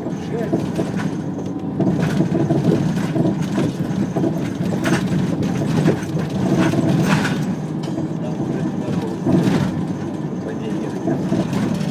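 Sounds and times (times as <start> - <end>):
vehicle engine and road rumble: 0.0 - 11.9.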